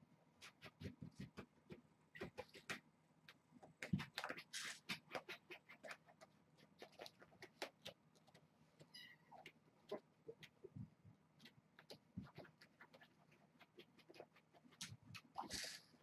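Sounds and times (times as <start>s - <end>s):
paws tapping and scratching: 0.4s - 15.6s.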